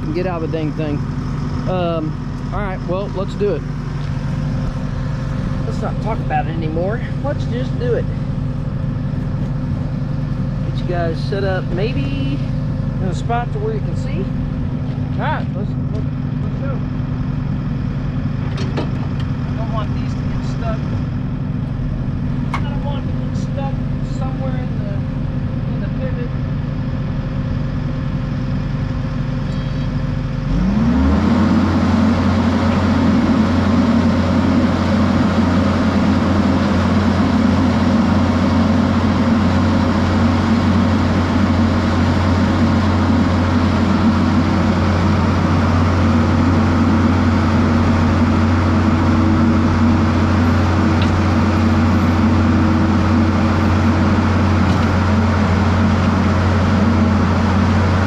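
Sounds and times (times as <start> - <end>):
diesel engine revving up: 0.0 - 58.0.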